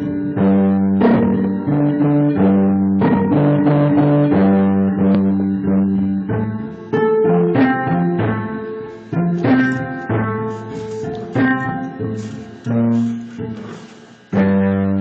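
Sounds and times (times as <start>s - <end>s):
plucked string notes: 0.0s - 15.0s.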